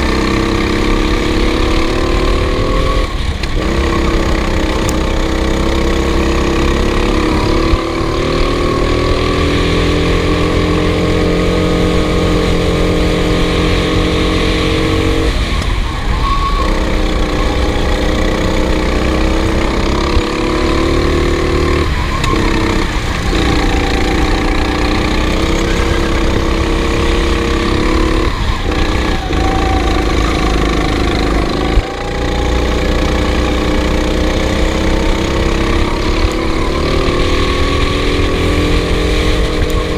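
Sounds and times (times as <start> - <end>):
kart engine at high revs: 0.0 - 39.9.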